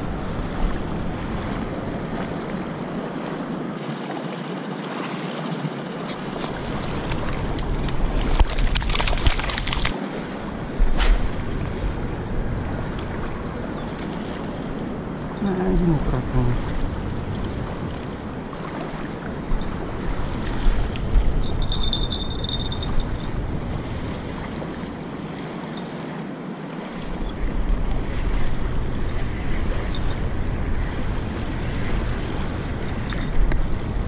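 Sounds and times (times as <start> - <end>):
wind buffeting microphone: 0.0 - 3.8, 5.5 - 25.8, 26.8 - 34.0
small waves lapping: 0.0 - 34.0.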